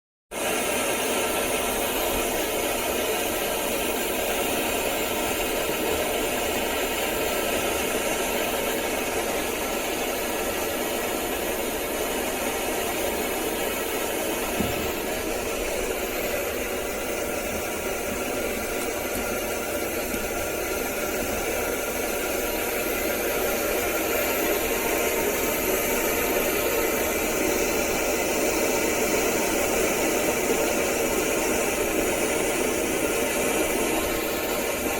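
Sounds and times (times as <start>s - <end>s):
stove burner flame rushing: 0.3s - 34.9s.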